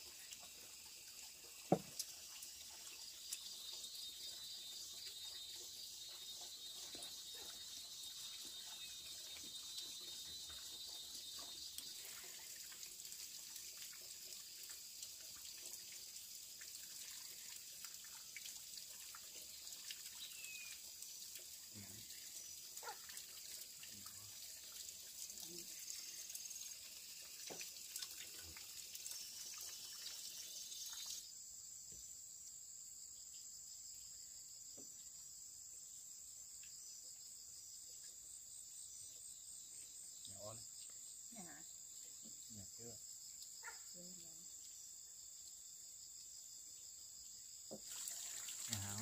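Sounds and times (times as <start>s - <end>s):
insects chirring: 0.0s - 49.0s.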